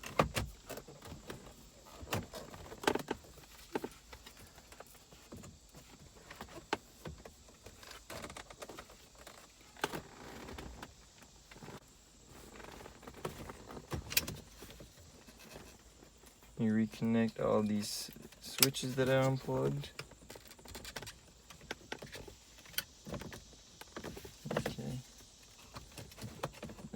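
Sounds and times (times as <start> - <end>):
soft rustling: 0.7 - 26.9.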